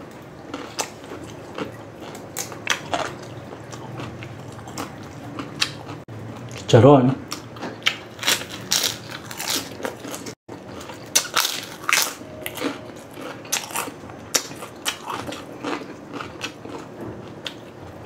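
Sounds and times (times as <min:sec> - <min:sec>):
crunchy food being chewed: 0:00.4 - 0:06.7, 0:07.3 - 0:18.0.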